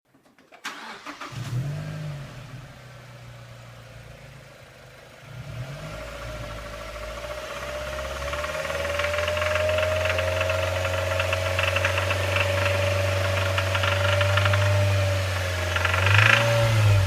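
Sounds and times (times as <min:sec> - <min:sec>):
car engine starting and revving: 0:00.6 - 0:17.0
engine whine: 0:00.7 - 0:17.0
engine rattle: 0:03.2 - 0:17.0.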